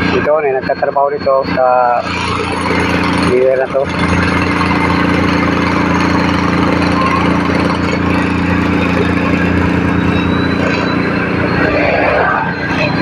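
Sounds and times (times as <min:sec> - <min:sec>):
combustion engine running steadily: 0:00.0 - 0:13.0.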